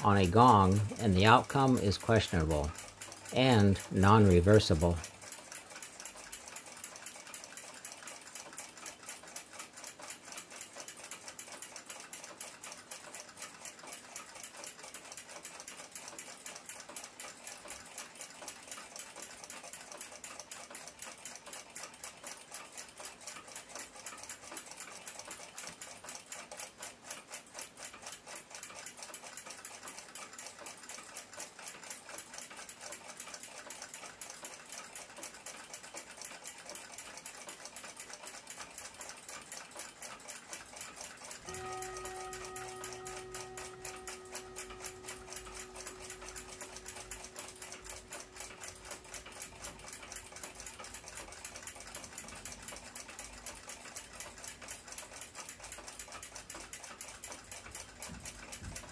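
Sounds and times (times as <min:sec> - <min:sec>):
mechanical clock ticking: 0:00.0 - 0:58.9.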